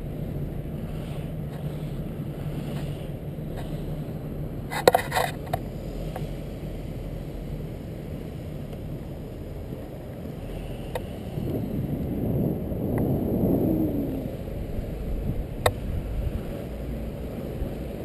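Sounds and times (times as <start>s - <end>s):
skate wheels rolling on asphalt: 0.0s - 18.0s.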